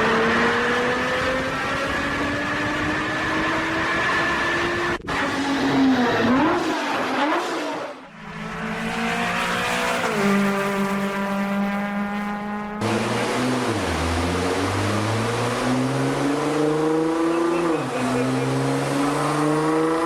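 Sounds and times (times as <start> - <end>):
sports car engine: 0.0 - 20.0.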